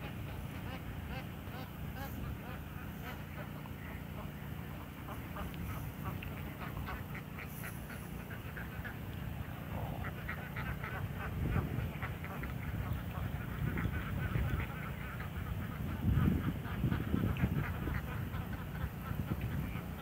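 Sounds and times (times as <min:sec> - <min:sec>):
low steady rumble: 0:00.0 - 0:20.0
water birds calling: 0:00.0 - 0:20.0.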